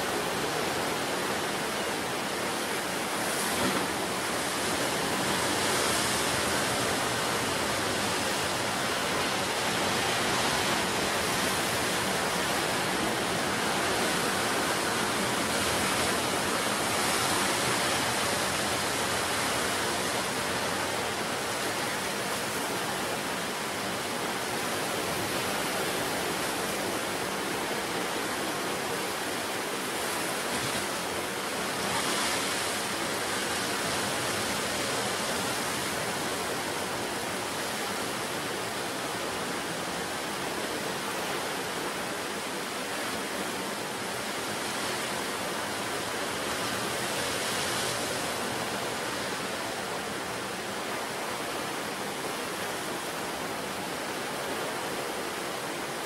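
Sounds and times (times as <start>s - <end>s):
sea surf breaking on shore: 0.0s - 56.0s.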